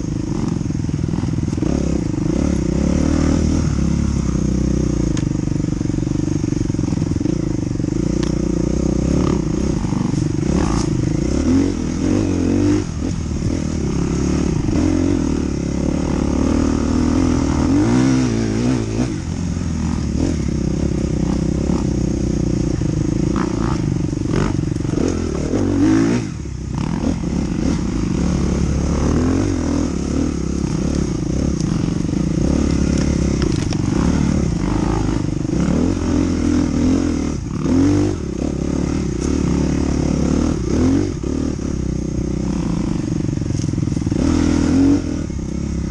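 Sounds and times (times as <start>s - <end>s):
dirt bike engine revving: 0.0s - 45.9s
bike rattling: 3.6s - 45.9s.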